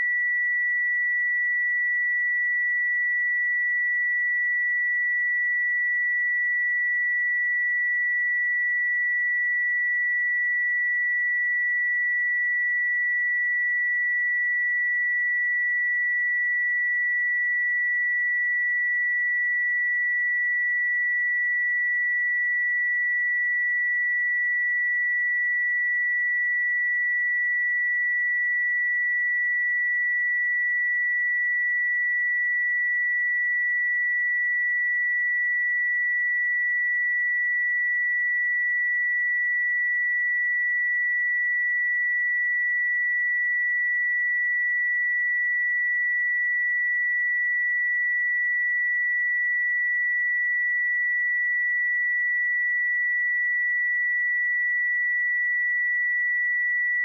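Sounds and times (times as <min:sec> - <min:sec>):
sine wave test tone: 0:00.0 - 0:57.0.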